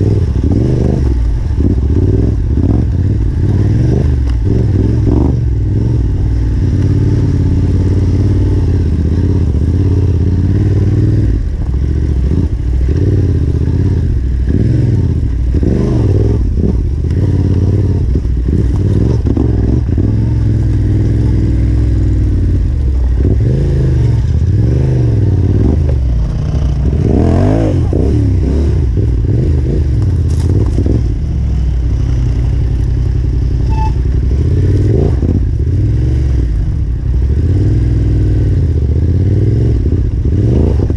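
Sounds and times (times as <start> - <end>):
motorcycle engine revving: 0.0 - 40.9
motorcycle rattling over ground: 0.0 - 40.9.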